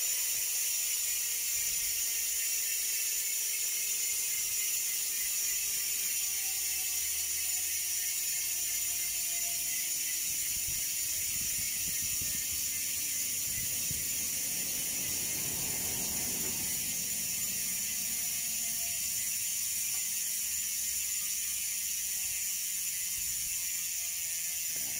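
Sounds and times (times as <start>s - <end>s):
bicycle hub freewheel buzzing: 0.0s - 24.9s.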